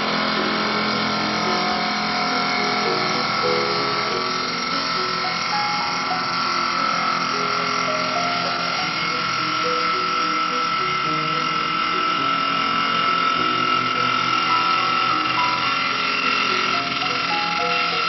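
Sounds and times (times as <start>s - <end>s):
hiss of wood cutting: 0.0s - 18.0s
wood lathe high whine: 0.0s - 18.0s.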